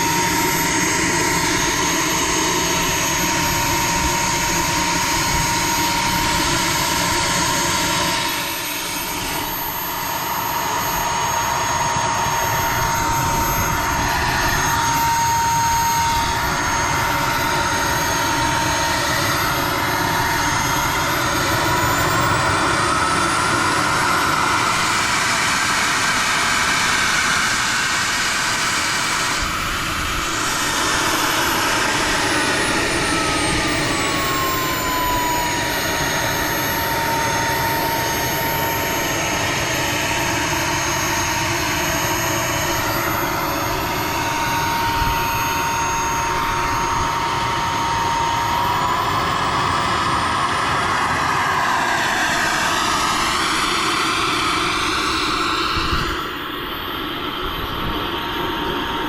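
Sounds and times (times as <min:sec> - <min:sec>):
model jet turbine whining: 0:00.0 - 0:59.0.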